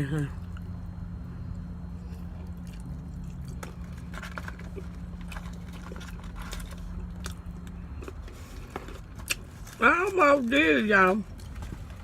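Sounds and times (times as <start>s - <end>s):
close-up chewing: 0.0s - 9.8s, 11.2s - 12.0s
steady low hum: 0.0s - 12.0s.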